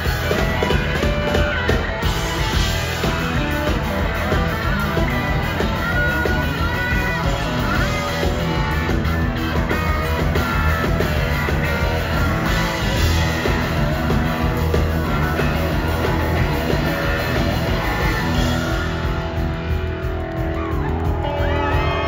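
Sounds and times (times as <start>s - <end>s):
electric guitar: 0.0s - 22.0s
live rock band: 0.0s - 22.0s.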